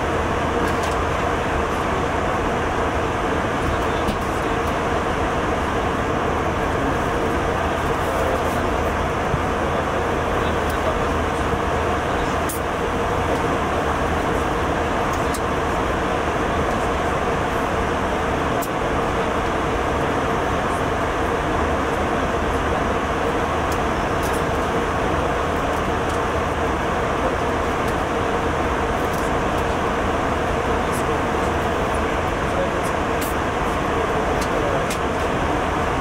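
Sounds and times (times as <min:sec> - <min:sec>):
jet airliner cabin noise: 0:00.0 - 0:36.0.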